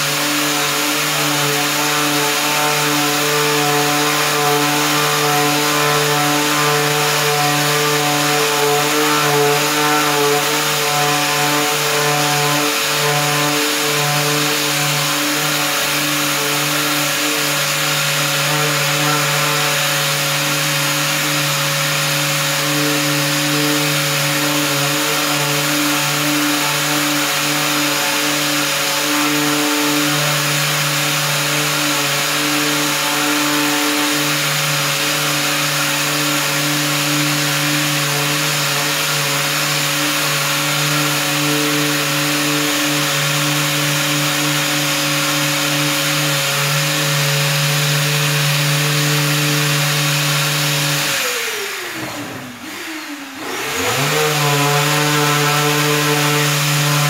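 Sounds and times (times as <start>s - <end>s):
power sander running: 0.0s - 57.0s.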